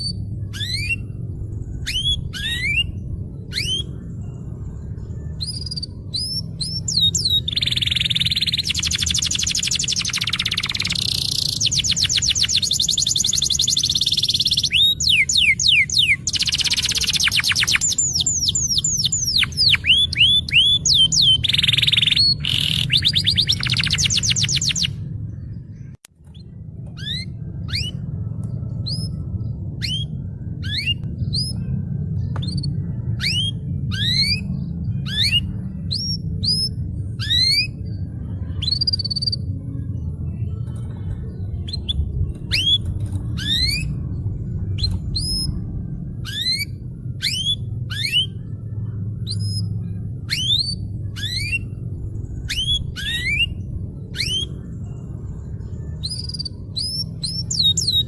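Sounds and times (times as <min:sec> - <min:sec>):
canary singing: 0:00.0 - 0:58.0
steady low rumble: 0:00.0 - 0:58.0.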